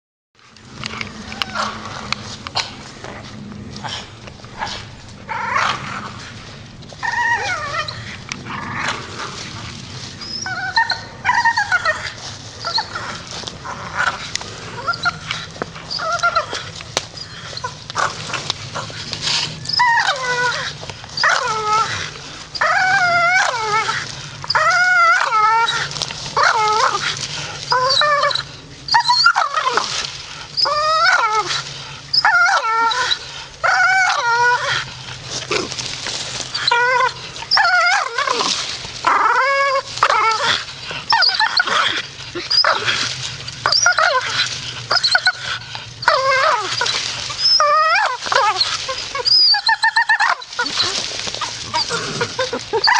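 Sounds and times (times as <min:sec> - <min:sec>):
dog whining and howling: 0:00.7 - 0:02.4, 0:04.6 - 0:52.9.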